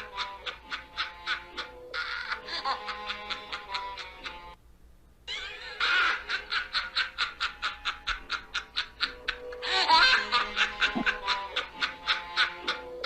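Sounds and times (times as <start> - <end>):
witch cackling laugh: 0.0 - 4.6, 5.3 - 13.0.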